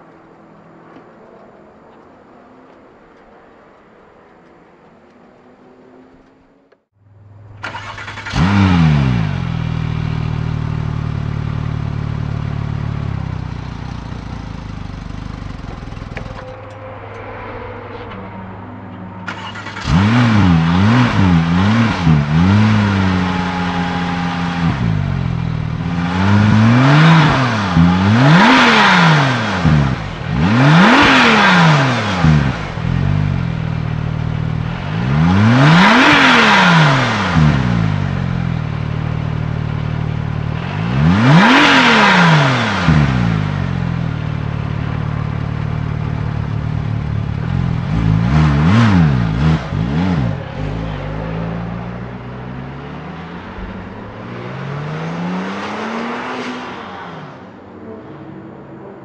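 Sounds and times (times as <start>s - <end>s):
car engine revving: 5.4s - 58.2s.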